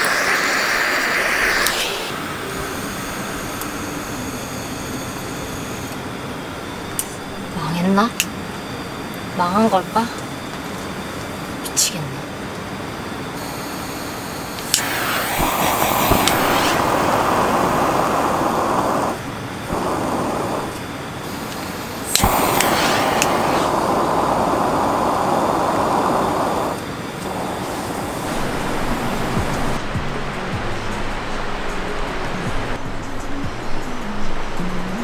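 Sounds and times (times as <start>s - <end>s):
gas lantern hissing: 0.0s - 11.9s, 13.2s - 33.2s.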